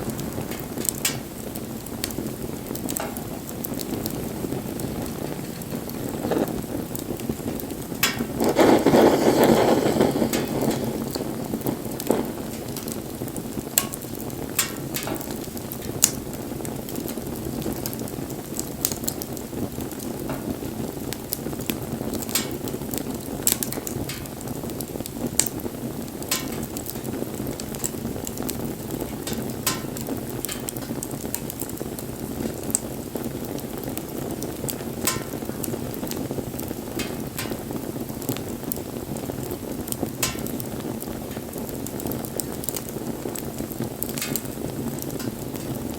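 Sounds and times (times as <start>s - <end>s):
burning wood crackling and popping: 0.0s - 45.9s
rush of bonfire flames: 0.0s - 45.9s.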